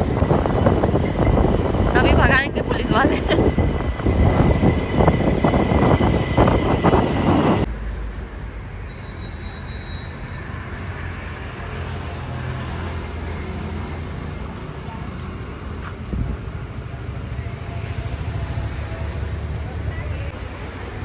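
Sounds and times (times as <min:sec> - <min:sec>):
distant city traffic rumble: 0:00.0 - 0:21.0
loud road traffic: 0:00.0 - 0:21.0.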